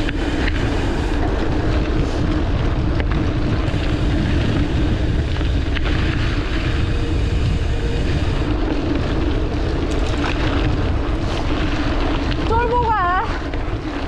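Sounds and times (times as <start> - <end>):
bike tyres on dirt: 0.0 - 14.0
wind rushing over microphone: 0.0 - 14.0.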